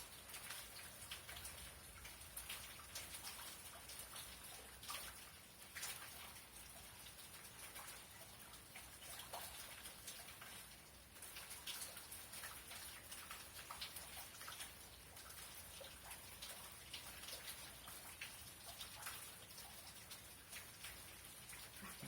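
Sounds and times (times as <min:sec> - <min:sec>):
raindrops ticking: 0:00.0 - 0:22.0
soft rain hiss: 0:00.0 - 0:22.0.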